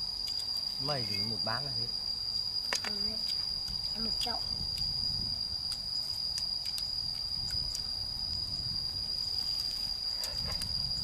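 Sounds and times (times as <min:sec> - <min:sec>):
insect buzzing: 0:00.0 - 0:11.0.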